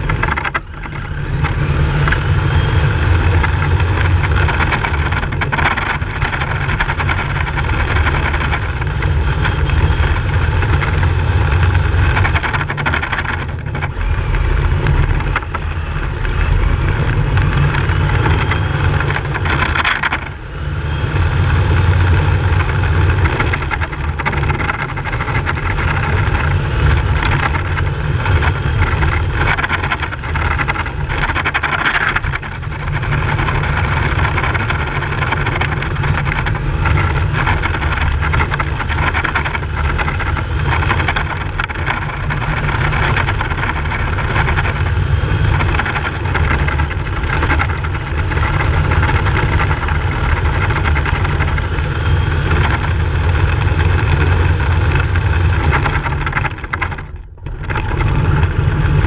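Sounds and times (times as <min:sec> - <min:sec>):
radio-controlled car running: 0:00.0 - 0:59.0.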